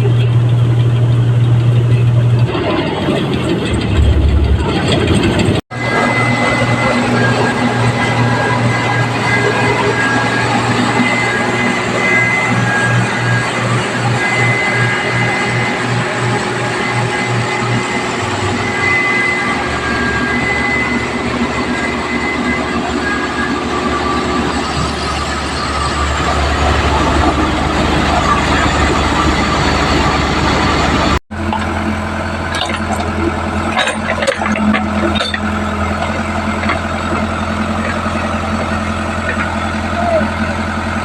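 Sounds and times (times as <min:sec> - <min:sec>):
harvester engine and machinery: 0:00.0 - 0:41.0.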